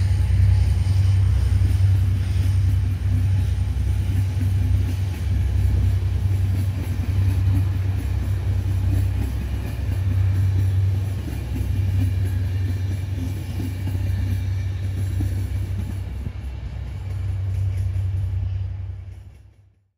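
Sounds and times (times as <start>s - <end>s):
locomotive diesel engine drone: 0.0s - 19.6s.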